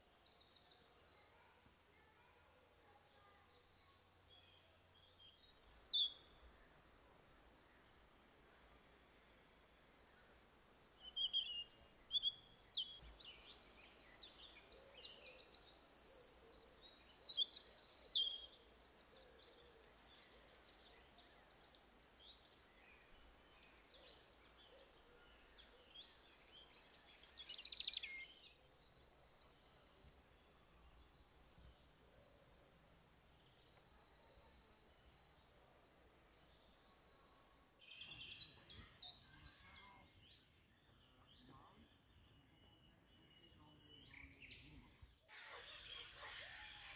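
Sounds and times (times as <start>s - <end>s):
robin singing: 3.6s - 46.9s.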